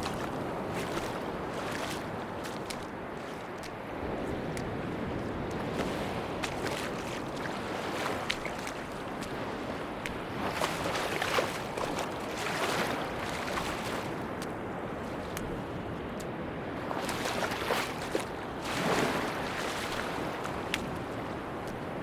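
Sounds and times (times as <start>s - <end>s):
sea surf washing on beach: 0.0s - 22.0s.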